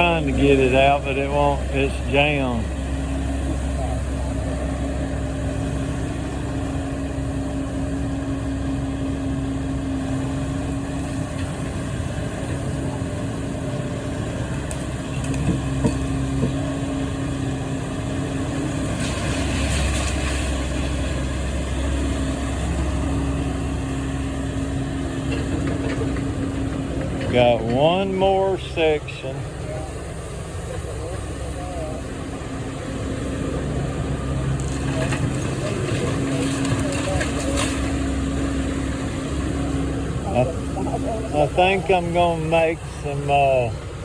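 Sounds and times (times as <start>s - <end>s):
heavy machine engine running: 0.0s - 44.0s.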